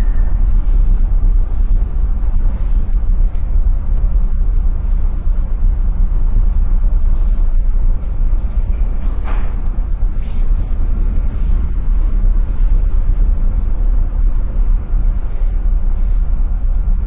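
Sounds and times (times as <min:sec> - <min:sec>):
low rumble of ship: 0:00.0 - 0:17.0
wind buffeting microphone: 0:00.0 - 0:17.0.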